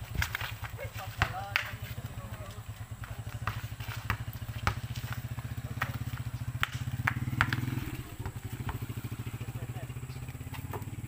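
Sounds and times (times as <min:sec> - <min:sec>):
basketball bouncing on concrete: 0:00.0 - 0:11.0
small engine running: 0:01.8 - 0:11.0.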